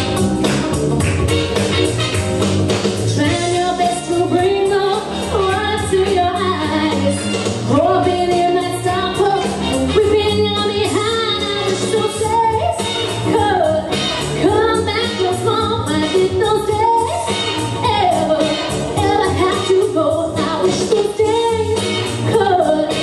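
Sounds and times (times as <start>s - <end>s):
backing music: 0.0s - 23.0s
woman singing into a microphone: 3.1s - 23.0s.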